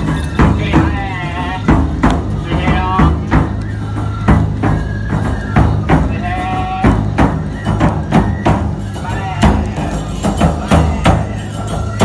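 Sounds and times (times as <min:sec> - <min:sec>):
bamboo flutes playing melody: 0:00.0 - 0:12.0
taiko drums beating: 0:00.0 - 0:12.0.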